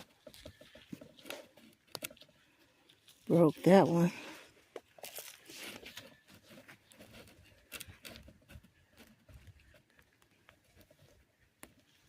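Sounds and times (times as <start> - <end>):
hands digging through soil: 0.0 - 12.0.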